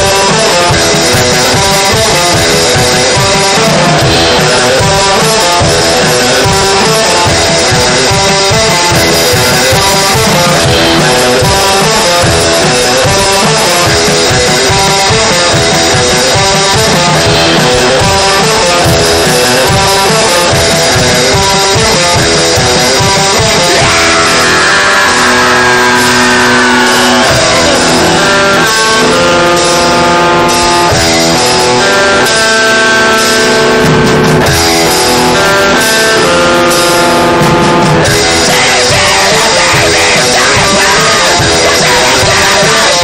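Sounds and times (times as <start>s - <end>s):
distorted metal guitar and drums: 0.0s - 43.0s.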